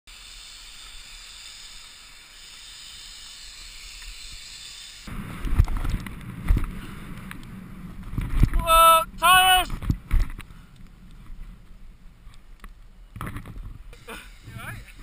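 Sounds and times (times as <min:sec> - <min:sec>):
faint steady hiss: 0:00.1 - 0:15.0.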